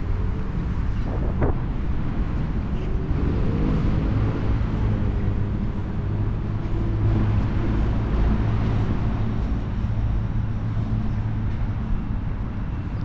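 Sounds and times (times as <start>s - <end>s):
engine hum: 0.0s - 13.0s
road traffic rumble: 0.0s - 13.0s
vehicle passing: 0.0s - 13.0s.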